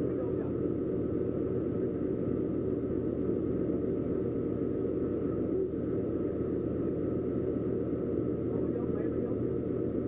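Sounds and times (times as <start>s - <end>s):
faint high whine: 0.0s - 10.0s.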